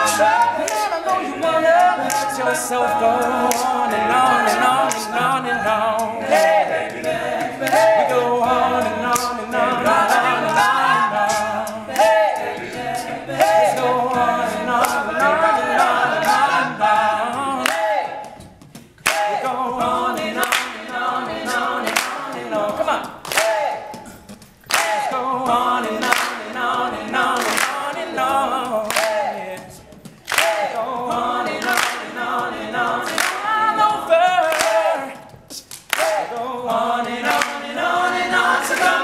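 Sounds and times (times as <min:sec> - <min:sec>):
hands clapping: 0:00.0 - 0:05.3, 0:06.2 - 0:16.6, 0:17.4 - 0:39.0
male group singing a cappella: 0:00.0 - 0:39.0
percussive beat: 0:00.0 - 0:39.0.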